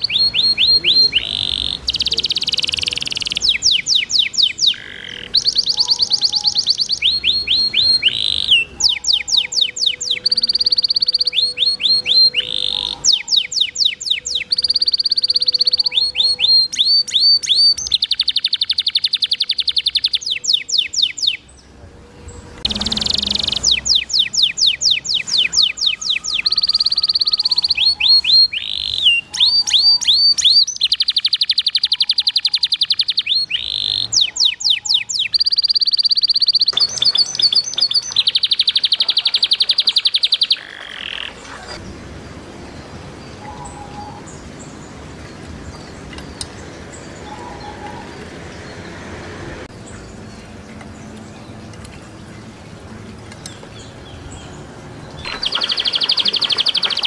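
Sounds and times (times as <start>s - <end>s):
canary singing trills: 0.0s - 42.0s, 42.6s - 49.0s, 53.3s - 57.0s.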